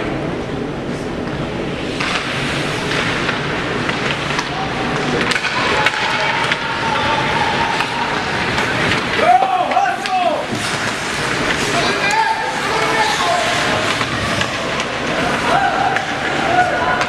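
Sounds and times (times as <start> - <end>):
sticks clacking on puck: 1.2 - 6.8, 7.6 - 17.0
skates scraping on ice: 1.3 - 17.0.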